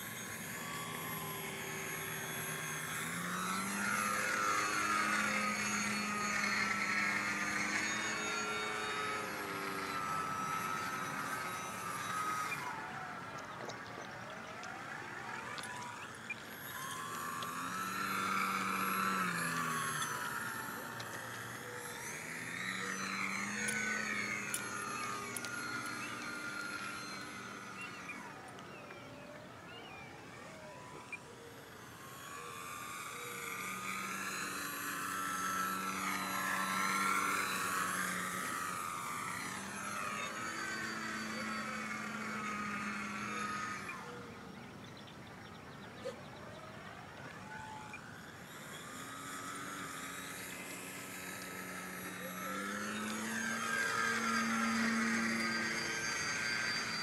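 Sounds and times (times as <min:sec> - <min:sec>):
model plane motor whining: 0:00.0 - 0:57.0.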